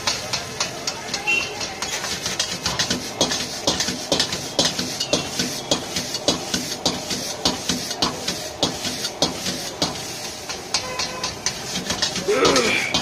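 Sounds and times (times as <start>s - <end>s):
food sizzling: 0.0s - 13.0s
metal spatula scraping a wok: 0.1s - 13.0s.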